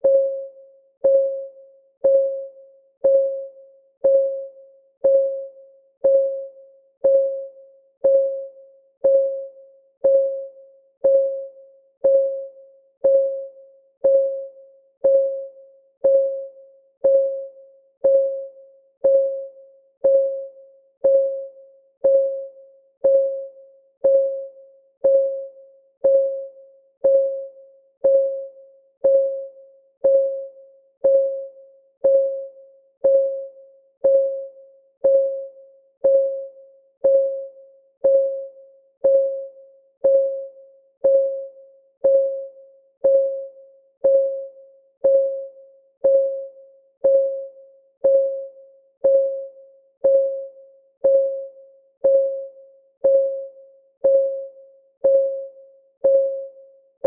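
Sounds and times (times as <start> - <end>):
clock ticking with ring: 0.0 - 57.0.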